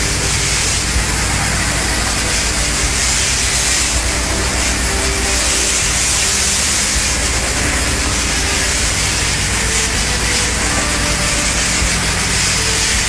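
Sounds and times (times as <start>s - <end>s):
compressed air and concrete hissing: 0.0s - 13.0s
machine humming: 0.0s - 13.0s.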